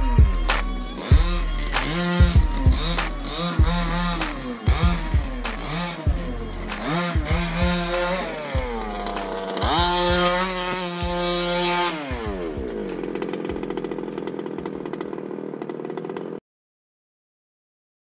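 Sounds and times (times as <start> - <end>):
small nitro engine revving: 0.0 - 16.4.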